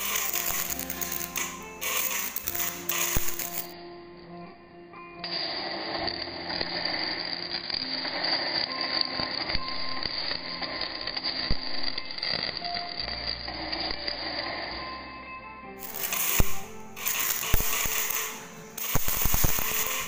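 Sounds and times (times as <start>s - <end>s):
crackle of electric sparks: 0.0s - 3.8s, 5.2s - 14.8s, 15.8s - 20.0s.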